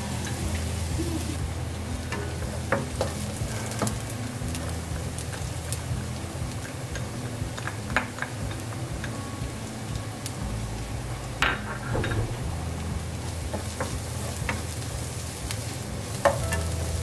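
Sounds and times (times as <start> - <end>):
low hum: 0.0 - 17.0
onion sizzling in oil: 0.0 - 17.0.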